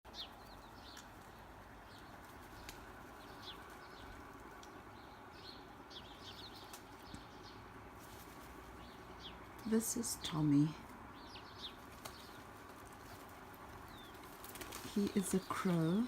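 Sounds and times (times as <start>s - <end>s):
low background noise: 0.1s - 16.0s.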